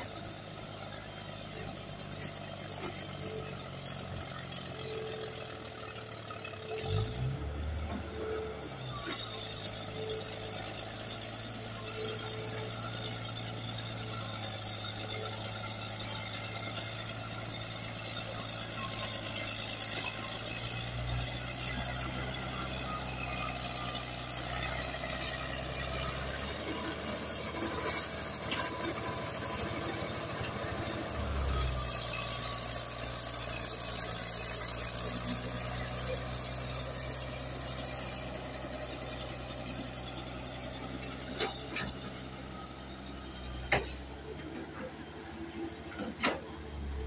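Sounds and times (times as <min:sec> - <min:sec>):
bulldozer diesel engine under load: 0:00.0 - 0:47.0.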